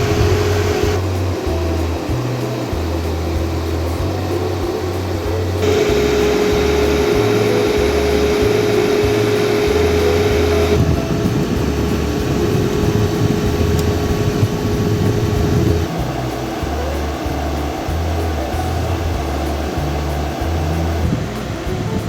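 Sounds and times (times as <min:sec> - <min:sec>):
air conditioner whirring: 0:00.0 - 0:22.0
background music with bass line: 0:00.0 - 0:22.0.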